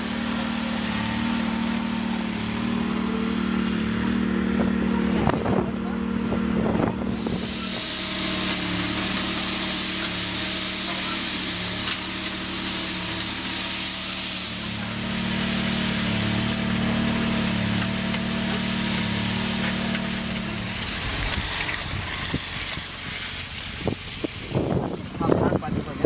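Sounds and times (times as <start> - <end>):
loud steady hiss: 0.0 - 5.2, 7.0 - 26.0
machine engine running: 0.0 - 26.0.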